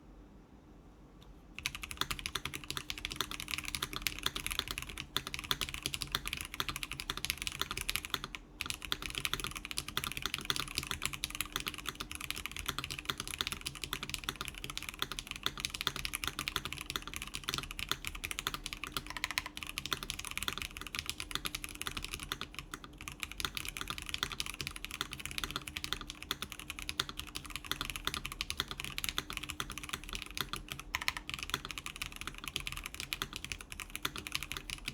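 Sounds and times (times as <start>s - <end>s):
fast clicky keyboard typing: 1.6s - 34.9s.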